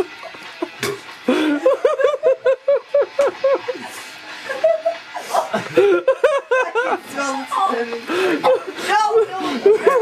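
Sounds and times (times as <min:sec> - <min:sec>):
people laughing: 0:00.0 - 0:10.0.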